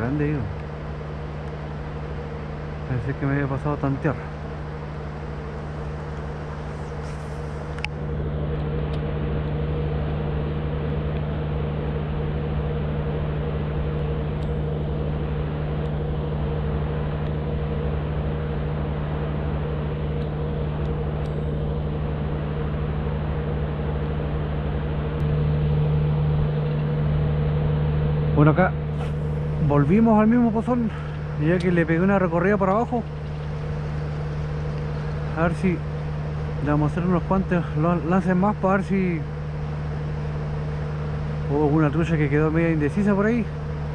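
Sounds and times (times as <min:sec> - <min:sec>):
engine-like drone: 0:00.0 - 0:43.9.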